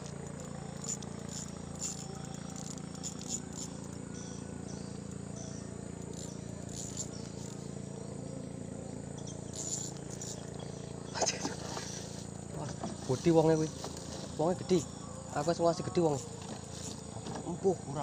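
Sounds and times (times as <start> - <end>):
insects chirring: 0.0 - 18.0
steady low hum: 0.0 - 18.0.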